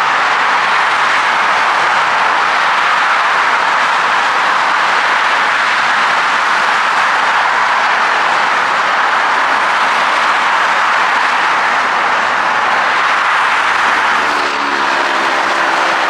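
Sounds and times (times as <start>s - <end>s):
dense highway traffic: 0.0s - 16.0s.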